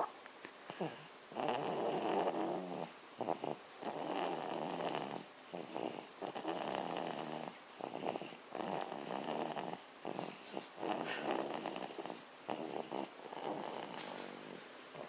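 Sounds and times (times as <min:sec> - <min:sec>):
baby snoring: 0:00.7 - 0:15.0.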